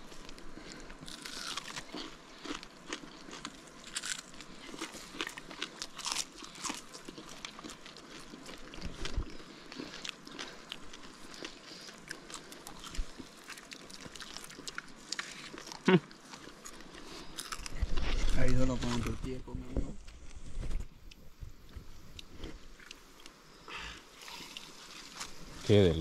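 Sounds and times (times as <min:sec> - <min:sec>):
crunchy chewing: 0:00.0 - 0:25.7.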